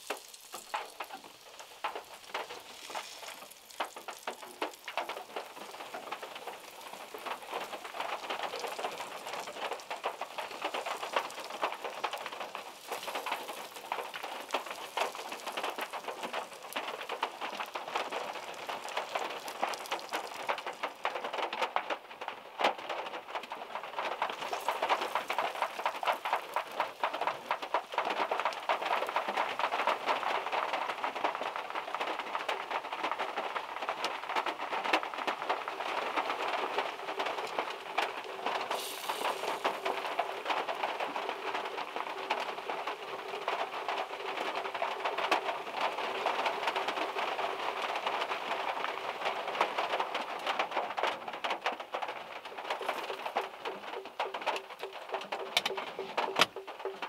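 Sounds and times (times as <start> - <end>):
heavy rain on a car: 0.0 - 57.0.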